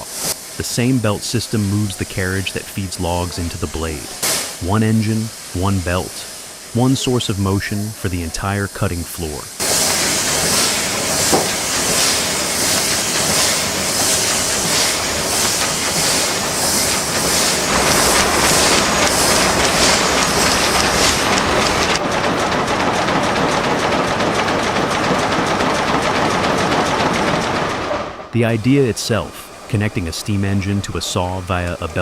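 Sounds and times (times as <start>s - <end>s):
rhythmic steam hiss: 0.0s - 32.0s
steam engine mechanical clatter: 0.0s - 32.0s.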